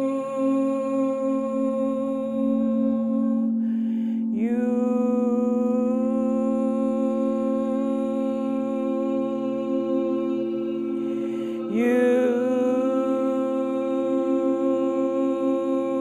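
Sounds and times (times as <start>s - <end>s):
person humming held notes: 0.0s - 16.0s
steady drone: 0.0s - 16.0s.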